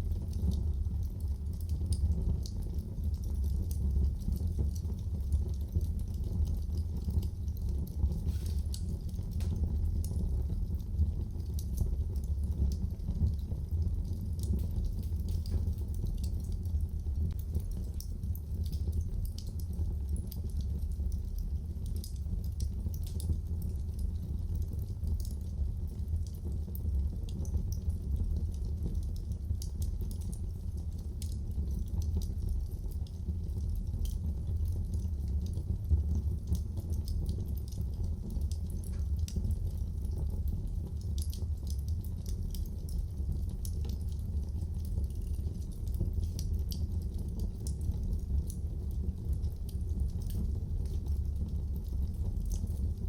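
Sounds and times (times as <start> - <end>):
fire crackling and popping: 0.0 - 53.0
fire rumbling in a fireplace: 0.0 - 53.0.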